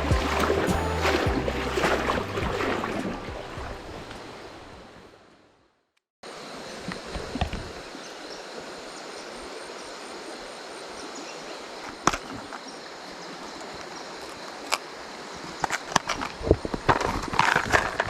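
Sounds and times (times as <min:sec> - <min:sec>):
stream water running: 0:00.0 - 0:05.5, 0:06.2 - 0:18.0.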